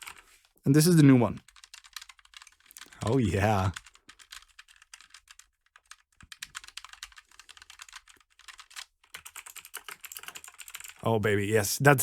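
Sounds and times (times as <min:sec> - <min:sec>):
rapid typing on mechanical keyboard: 0:00.0 - 0:00.4, 0:01.4 - 0:11.0.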